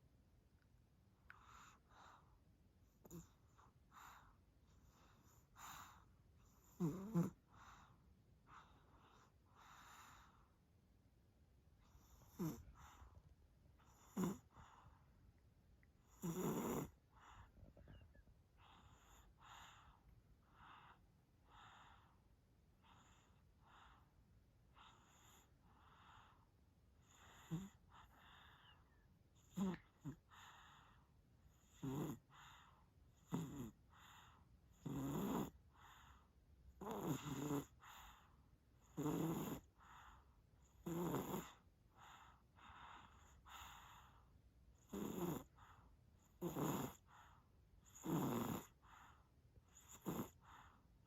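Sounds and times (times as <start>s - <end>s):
baby snoring softly: 1.2s - 8.0s, 11.9s - 13.2s, 13.8s - 15.0s, 16.0s - 22.2s, 24.7s - 50.8s.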